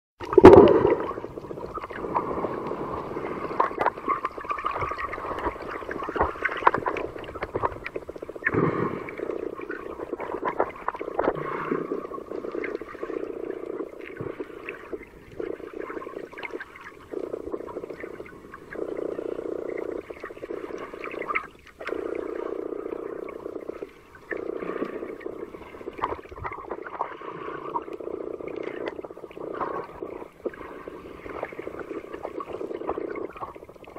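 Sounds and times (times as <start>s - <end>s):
clicks and crackles: 0.2s - 18.8s, 23.2s - 33.9s
muffled underwater rushing: 0.2s - 33.9s.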